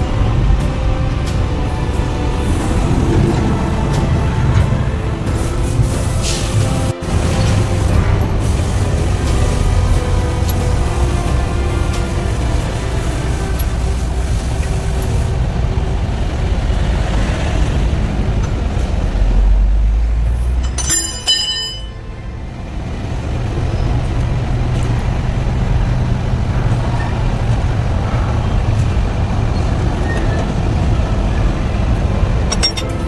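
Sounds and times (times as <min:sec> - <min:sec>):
high-pitched squeal: 0:00.0 - 0:33.0
truck engine running: 0:00.0 - 0:33.0.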